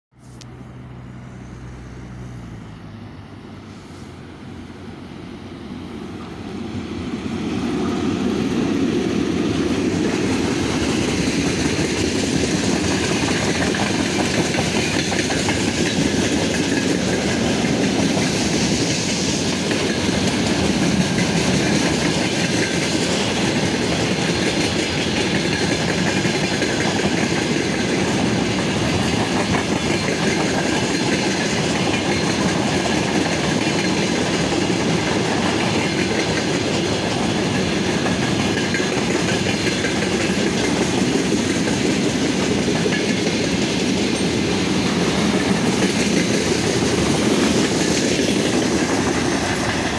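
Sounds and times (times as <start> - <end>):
train wheels rumbling and clattering: 4.2 - 49.9.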